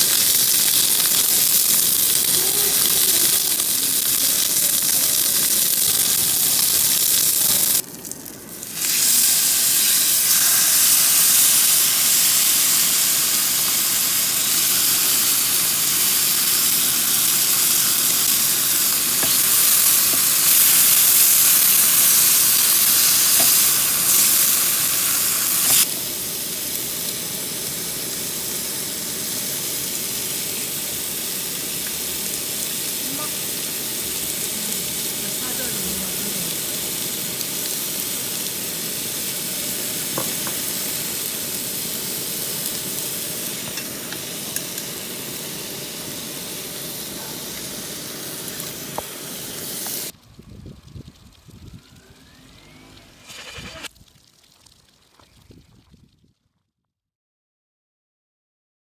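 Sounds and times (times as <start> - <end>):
ribs sizzling on a grill: 0.0 - 55.3.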